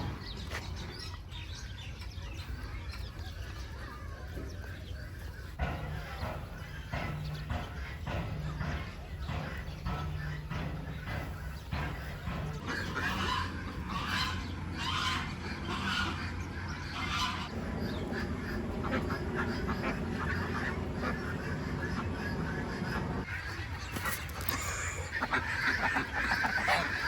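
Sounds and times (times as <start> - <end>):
low hum: 0.0 - 27.0
poultry calling: 0.0 - 27.0.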